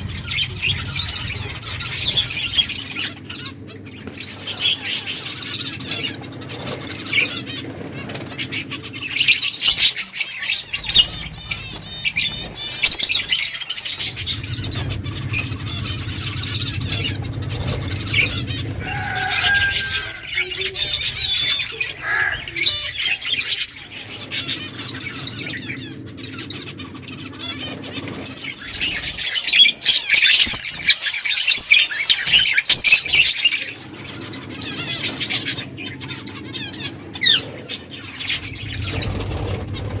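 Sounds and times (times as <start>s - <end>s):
finches chirping: 0.0s - 6.2s, 8.6s - 40.0s.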